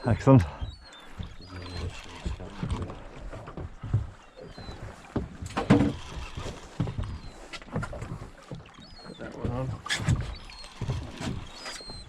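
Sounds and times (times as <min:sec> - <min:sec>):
knocks and thumps on a boat: 0:00.0 - 0:12.0
water: 0:00.0 - 0:12.0
wind: 0:00.0 - 0:12.0.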